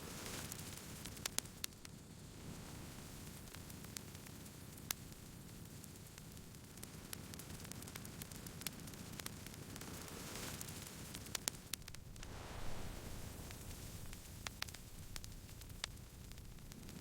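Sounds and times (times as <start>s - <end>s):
campfire crackling and popping: 0.1s - 17.0s
hiss of burning: 0.1s - 17.0s.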